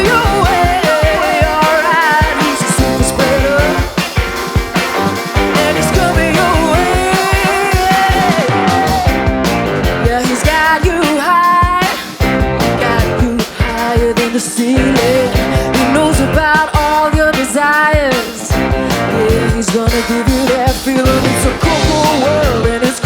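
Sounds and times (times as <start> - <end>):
drums hitting steadily: 0.0 - 23.0
rock band playing live: 0.0 - 23.0
sliding melodic lead line: 0.0 - 23.0.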